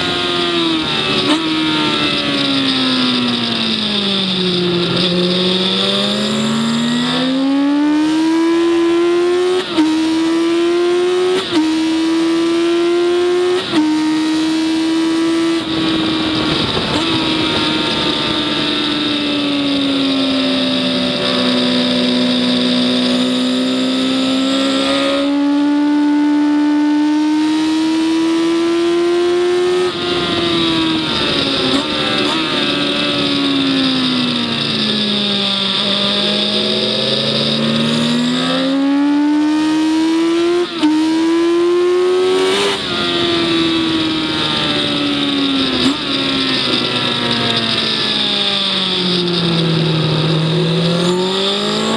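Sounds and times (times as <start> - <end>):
gear changes: 0.0 - 51.9
race engine revving: 0.0 - 51.9.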